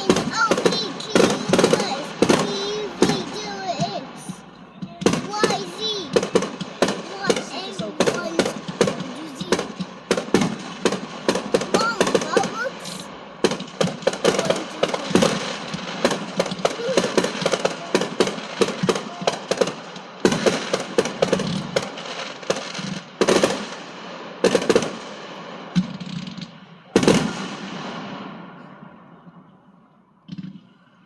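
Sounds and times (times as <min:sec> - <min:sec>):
fireworks cracking and booming: 0:00.0 - 0:31.0.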